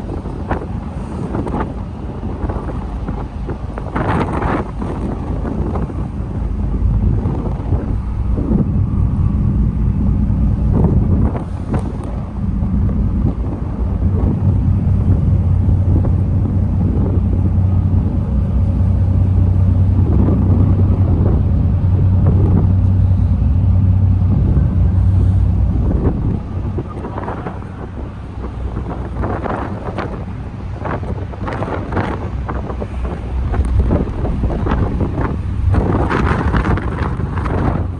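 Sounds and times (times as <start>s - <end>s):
ferry engines droning: 0.0s - 37.9s
wind buffeting microphone: 0.0s - 37.9s.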